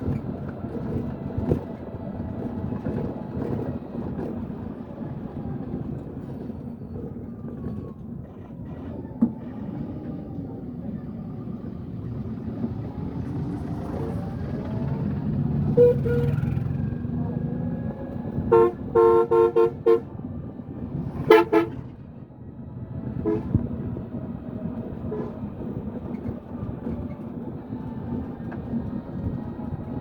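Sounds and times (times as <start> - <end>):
engine running low rumble: 0.0 - 30.0.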